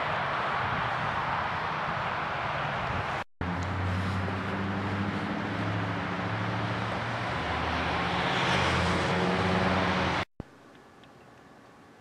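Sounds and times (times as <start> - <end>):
tyre and road noise: 0.0 - 10.5
vehicle engine humming: 0.0 - 12.0.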